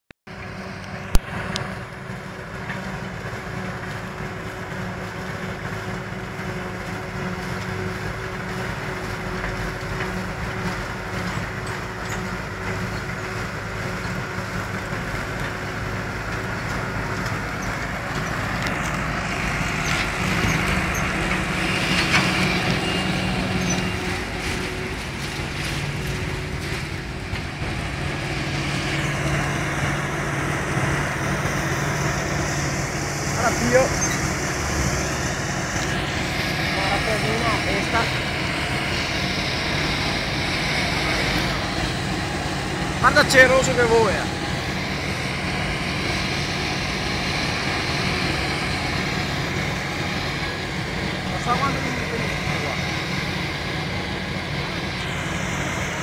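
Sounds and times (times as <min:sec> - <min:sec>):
tractor engine: 0:00.3 - 0:56.0
forage harvester chopping: 0:02.4 - 0:56.0.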